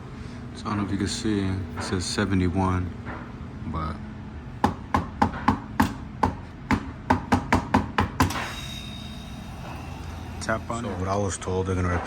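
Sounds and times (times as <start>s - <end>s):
low hum with high whine: 0.0s - 12.0s.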